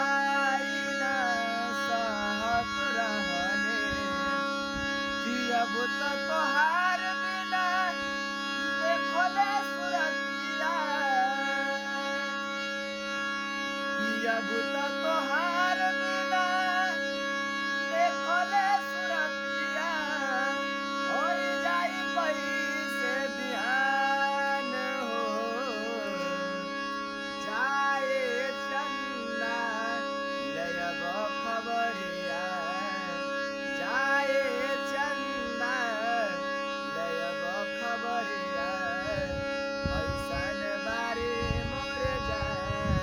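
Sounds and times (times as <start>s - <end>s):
harmonium drone notes: 0.0s - 43.0s
harmonium folk melody: 0.0s - 43.0s.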